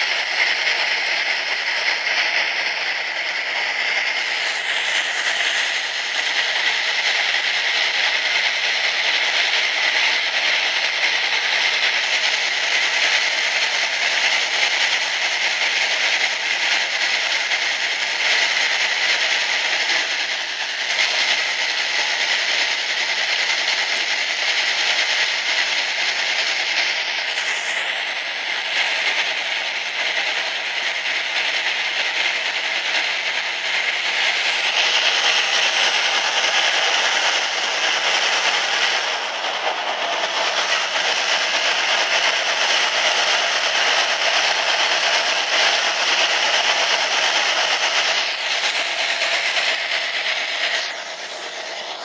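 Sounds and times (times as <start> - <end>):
train wheel-on-rail rush: 0.0 - 52.0.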